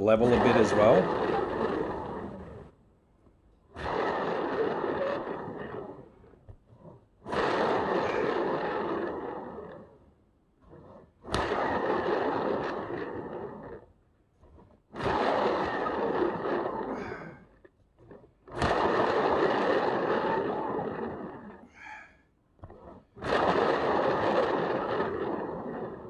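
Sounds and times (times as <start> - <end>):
plastic turntable whirring: 0.0 - 2.8, 3.6 - 21.7, 22.6 - 26.0.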